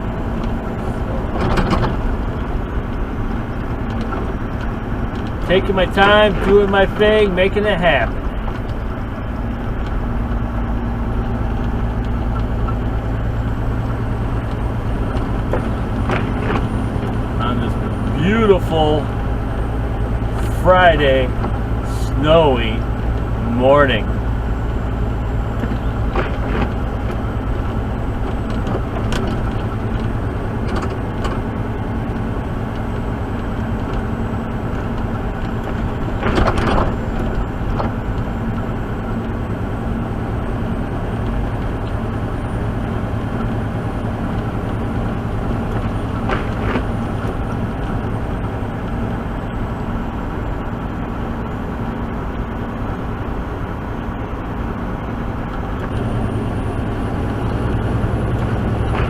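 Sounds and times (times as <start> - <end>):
road noise: 0.0 - 59.0
truck engine running: 0.0 - 59.0.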